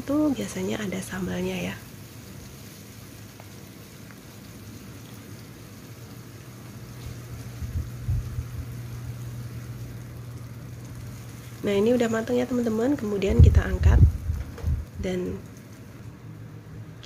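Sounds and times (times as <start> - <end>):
tofu sizzling in oil: 0.0 - 16.5
steady low hum: 0.0 - 17.0.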